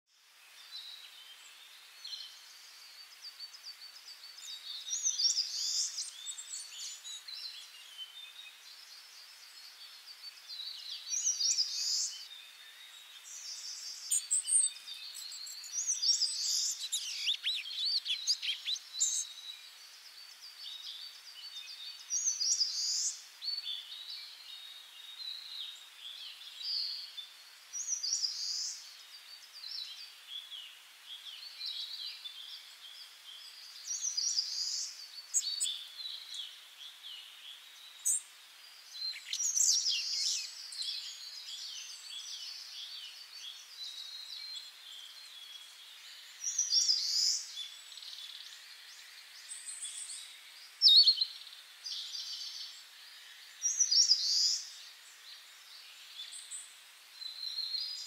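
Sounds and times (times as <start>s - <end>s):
faint steady hiss: 0.1s - 58.0s
birds chirping and trilling: 0.7s - 56.7s.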